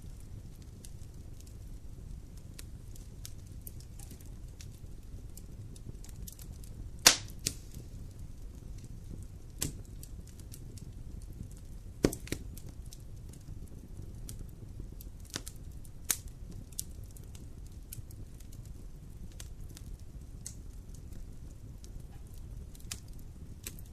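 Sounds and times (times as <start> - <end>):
campfire flame rumble: 0.0 - 23.9
wood crackling and popping: 0.0 - 23.9.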